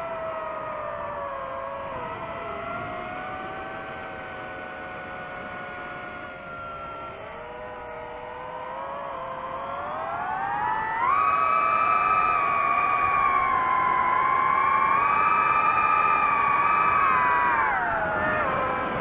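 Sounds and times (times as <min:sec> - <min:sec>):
drone motors and propellers whining: 0:00.0 - 0:19.0.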